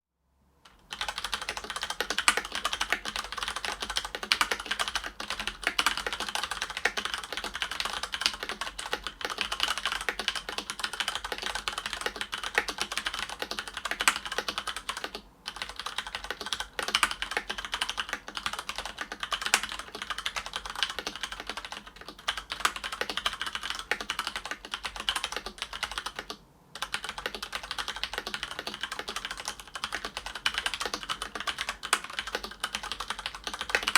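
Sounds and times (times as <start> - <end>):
mechanical keyboard typing: 0.7 - 33.9.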